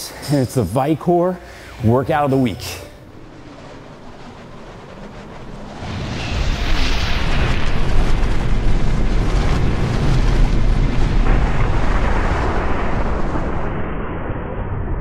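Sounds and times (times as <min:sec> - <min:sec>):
deep explosion-like rumble: 0:01.4 - 0:15.0
noisy whoosh of debris: 0:01.6 - 0:15.0.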